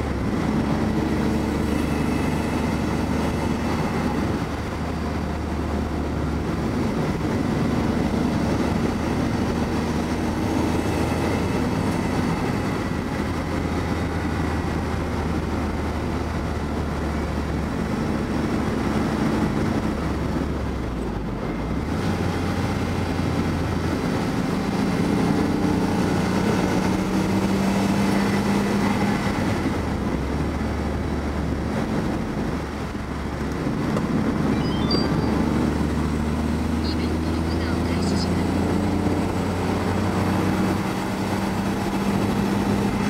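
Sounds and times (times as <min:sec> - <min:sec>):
car engine from inside cabin: 0:00.0 - 0:43.0.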